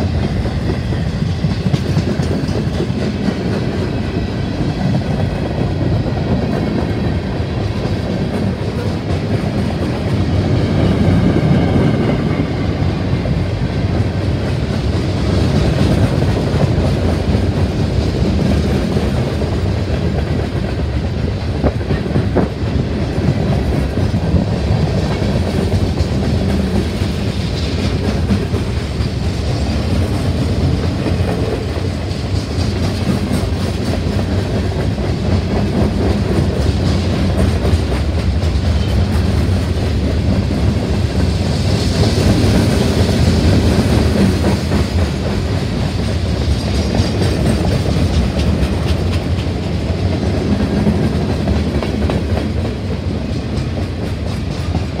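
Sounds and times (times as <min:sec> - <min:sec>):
freight train wheels clickety-clack: 0:00.0 - 0:55.0.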